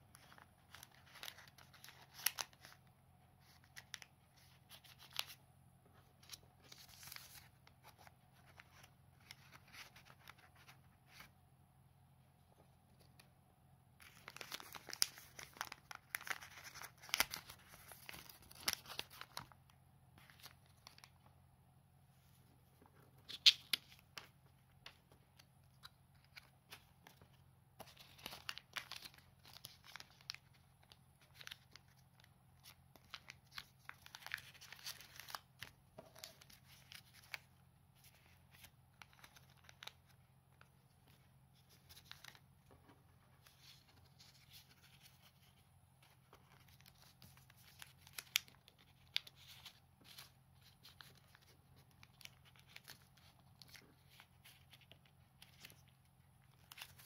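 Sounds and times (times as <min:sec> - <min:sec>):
paper rustling and crinkling: 0:00.1 - 0:02.8, 0:03.4 - 0:11.4, 0:14.0 - 0:19.6, 0:22.8 - 0:57.0.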